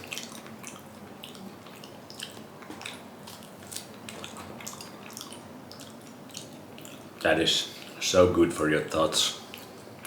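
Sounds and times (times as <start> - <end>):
chewing with wet clicks: 0.0 - 8.0, 9.4 - 10.0.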